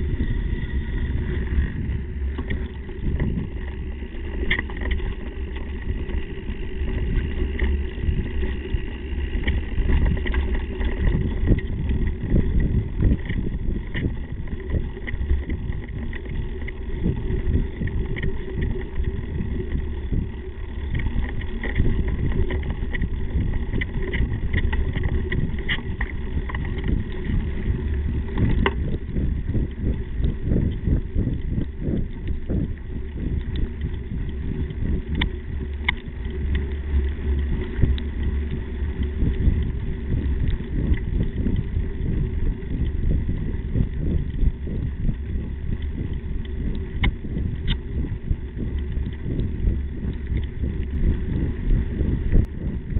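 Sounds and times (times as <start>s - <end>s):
bike clicks and rattles: 0.0s - 52.9s
bike tyres rumbling on dirt: 0.0s - 52.9s.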